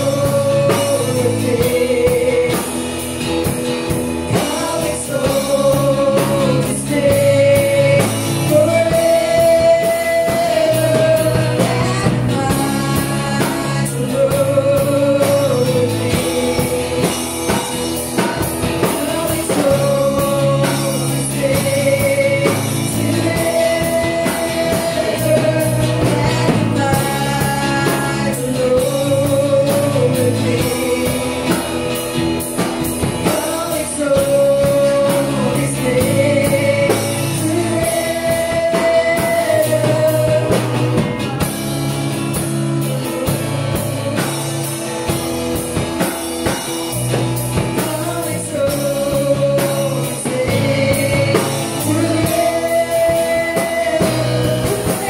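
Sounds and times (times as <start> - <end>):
acoustic guitar: 0.0 - 55.0
drum kit: 0.0 - 55.0
electric bass: 0.0 - 55.0.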